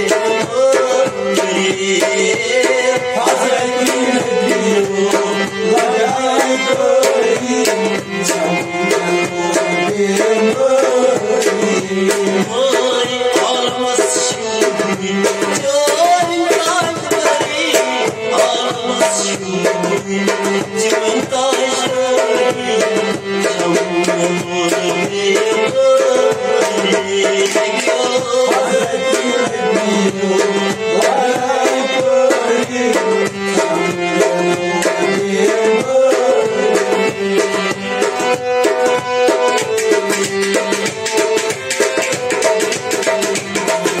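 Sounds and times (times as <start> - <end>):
harmonium melody over drone: 0.0 - 44.0.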